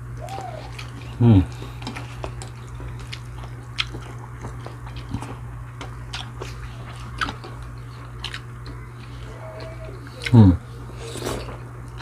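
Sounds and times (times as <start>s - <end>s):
steady low hum: 0.0s - 12.0s
chewing and crunching food: 0.1s - 12.0s.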